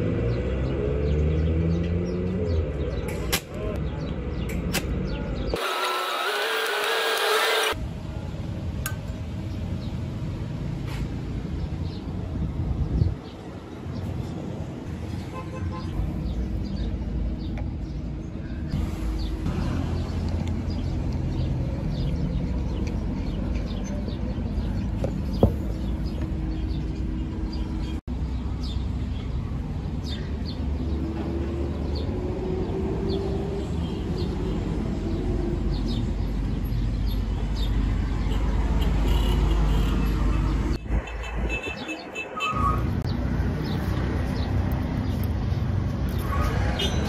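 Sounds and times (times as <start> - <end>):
traffic rumble: 0.0 - 47.0.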